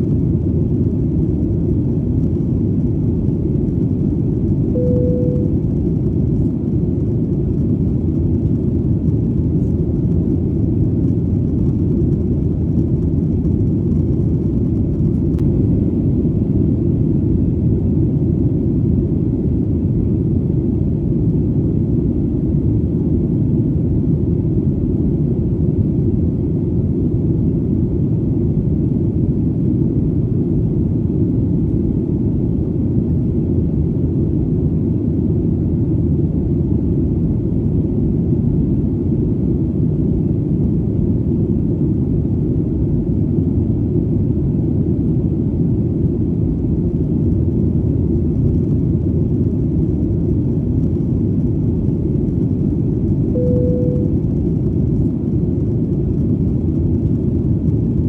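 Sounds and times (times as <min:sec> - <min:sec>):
airplane engine drone: 0:00.0 - 0:58.0.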